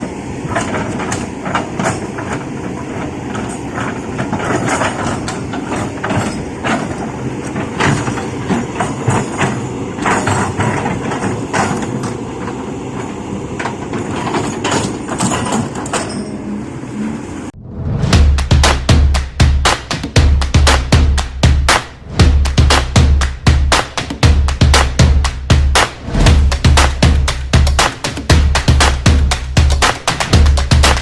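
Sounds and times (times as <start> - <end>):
diesel machinery running: 0.0 - 31.0
metallic clanks and knocks: 0.5 - 16.5, 18.1 - 31.0.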